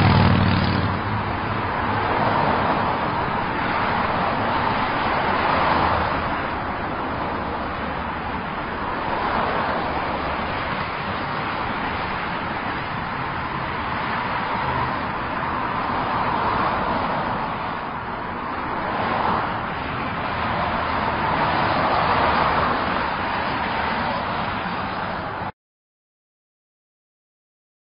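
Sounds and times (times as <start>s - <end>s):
highway traffic: 0.0s - 25.5s.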